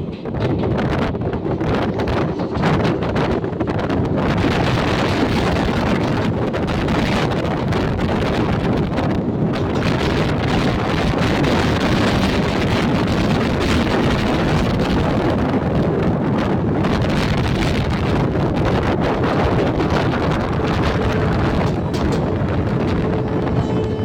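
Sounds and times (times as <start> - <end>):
moving train rushing: 0.0 - 24.0
wind buffeting microphone: 0.0 - 24.0.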